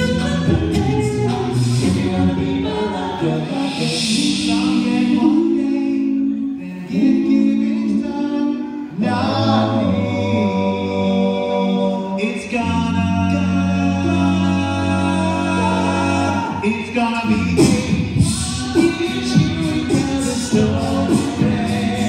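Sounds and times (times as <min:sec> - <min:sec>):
deep bass vocal line: 0:00.0 - 0:22.0
male vocal group singing: 0:00.0 - 0:22.0.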